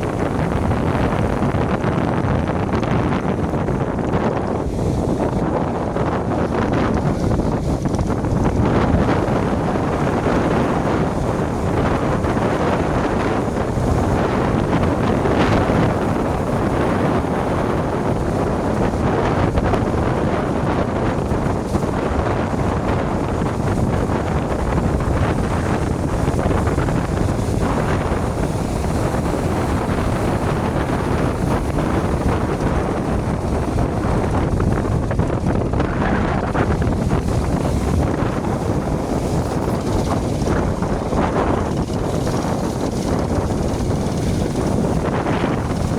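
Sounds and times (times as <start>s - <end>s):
motor boats running: 0.0s - 45.9s
waves: 0.0s - 45.9s
wind buffeting microphone: 0.0s - 45.9s.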